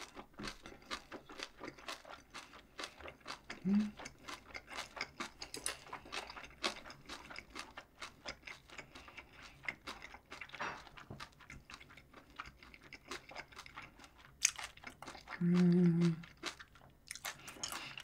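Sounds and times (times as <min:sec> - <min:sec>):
chewing food: 0:00.0 - 0:18.0.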